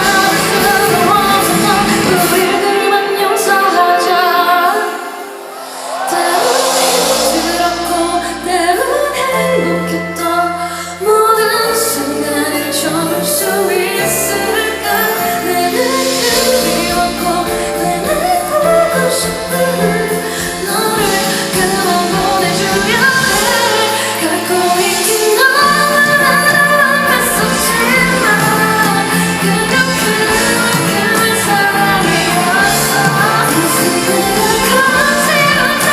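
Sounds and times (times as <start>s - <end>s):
live pop-rock band: 0.0s - 35.9s
woman singing: 0.0s - 35.9s.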